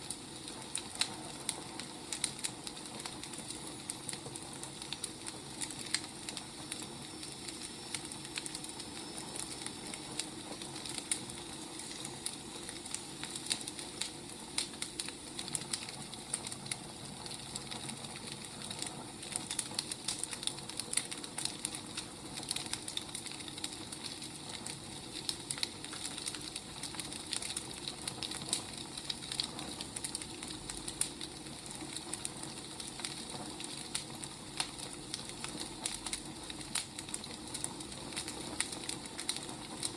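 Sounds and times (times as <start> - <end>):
fire crackling and popping: 0.0 - 39.9
firewood burning: 0.0 - 39.9.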